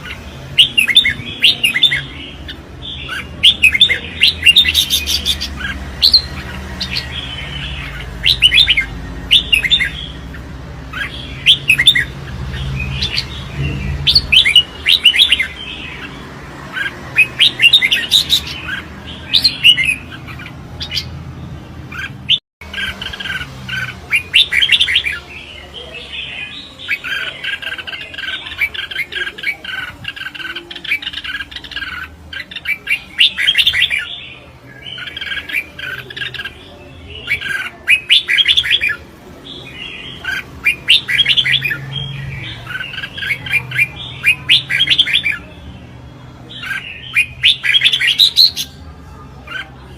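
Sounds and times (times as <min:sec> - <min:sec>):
birds chirping song phrases: 0:00.0 - 0:49.9.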